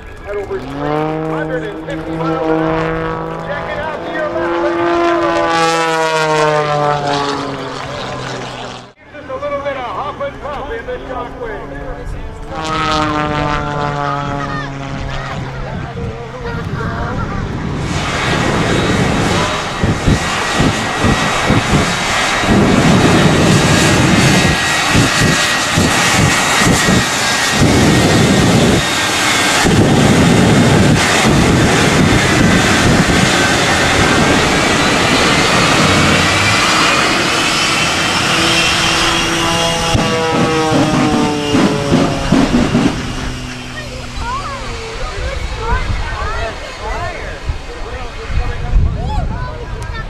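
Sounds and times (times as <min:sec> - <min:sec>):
jet engines whining and rumbling: 0:00.0 - 0:50.0.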